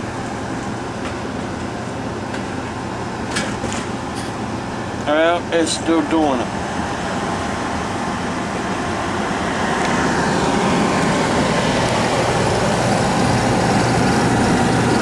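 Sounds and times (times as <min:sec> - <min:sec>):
oil furnace burner and blower rush: 0:00.0 - 0:15.0.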